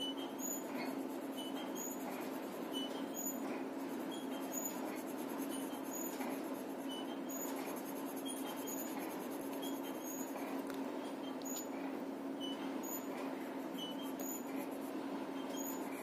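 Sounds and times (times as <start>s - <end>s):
steady low hum: 0.0s - 16.0s
pencil scratching on paper: 0.4s - 10.6s, 12.8s - 16.0s.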